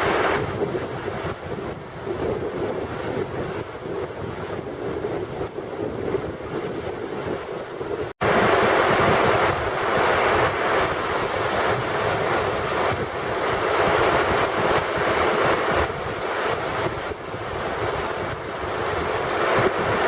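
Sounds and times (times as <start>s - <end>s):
heavy rain pouring: 0.0s - 6.6s, 7.2s - 20.0s
wind buffeting microphone: 0.0s - 20.0s.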